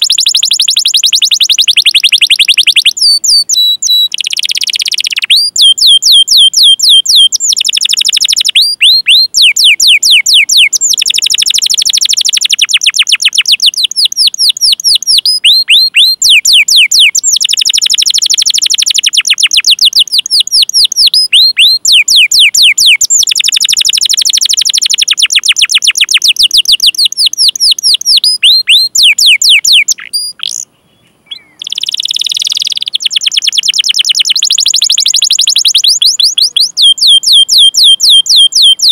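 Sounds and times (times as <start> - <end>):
canary singing chirps and trills: 0.0 - 38.9.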